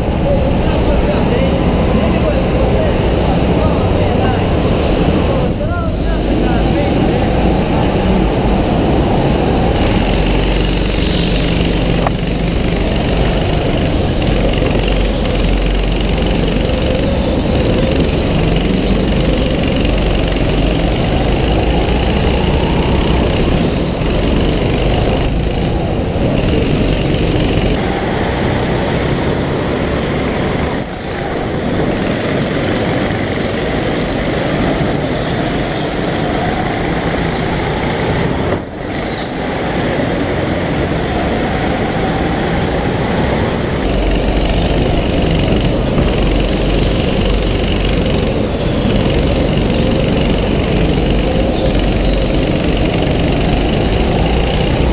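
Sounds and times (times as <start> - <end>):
kart engine running at speed: 0.0 - 54.9
tyres squealing: 0.0 - 54.9.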